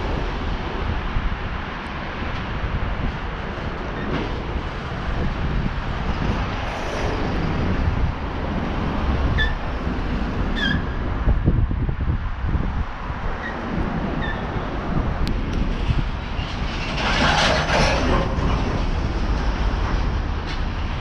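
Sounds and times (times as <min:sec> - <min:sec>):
road traffic: 0:00.0 - 0:21.0
wind rumbling on microphone: 0:00.0 - 0:21.0.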